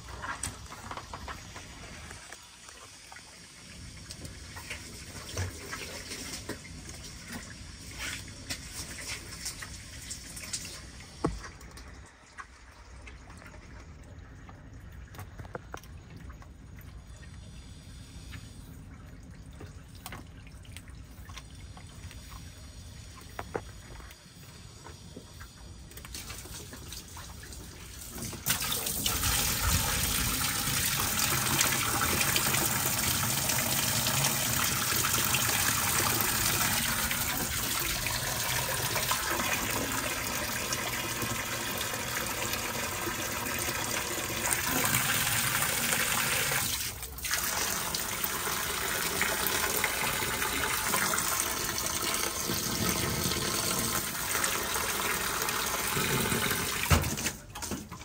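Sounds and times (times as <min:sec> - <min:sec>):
tap water running and splashing: 0:00.0 - 0:58.0.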